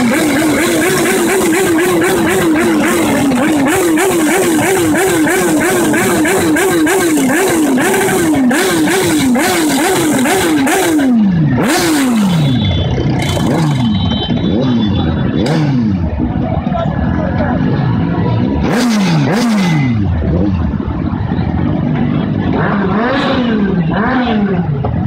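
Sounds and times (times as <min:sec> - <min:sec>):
motorcycles idling: 0:00.0 - 0:25.0.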